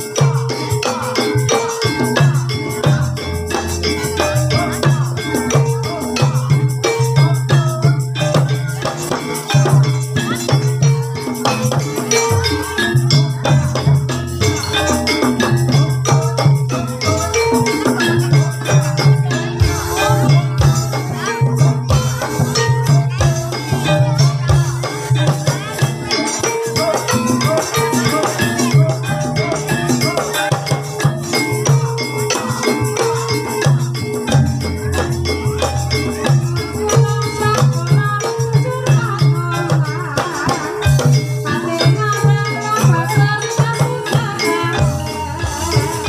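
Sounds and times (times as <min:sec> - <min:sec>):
jingling rattle percussion: 0:00.0 - 0:46.0
tuned percussion and drums: 0:00.0 - 0:46.0.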